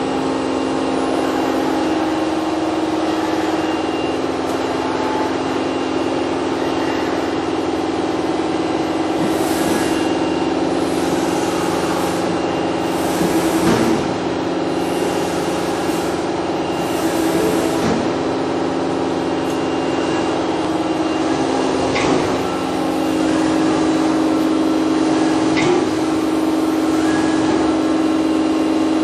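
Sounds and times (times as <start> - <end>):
mill spindle humming: 0.0 - 29.0.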